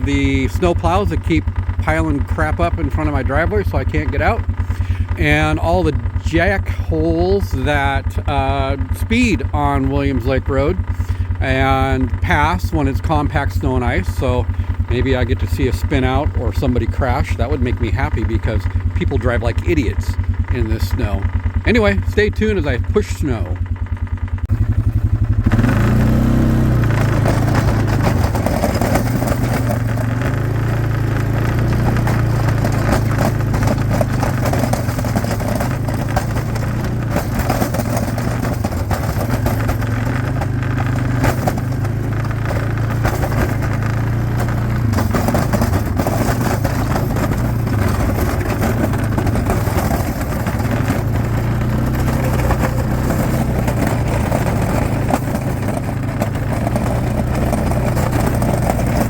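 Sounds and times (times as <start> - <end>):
snowplow engine running under load: 0.0 - 59.0.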